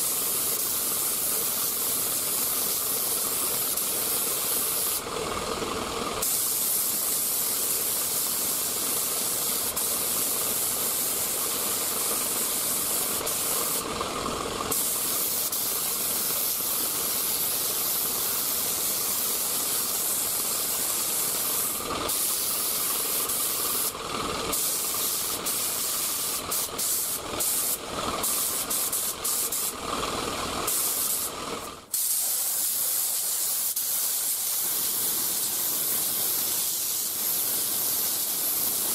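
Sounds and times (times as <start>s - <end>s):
spray gun hissing: 0.0s - 30.0s, 30.6s - 38.9s.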